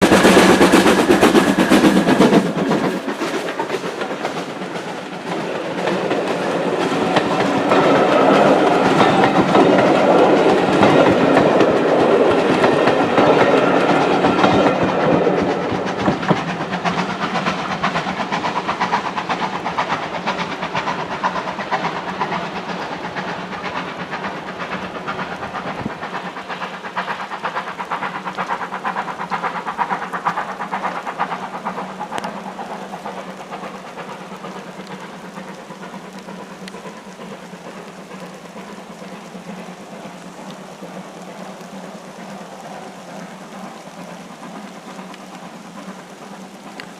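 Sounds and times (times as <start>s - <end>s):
train wheels clattering on rail: 0.0s - 46.9s.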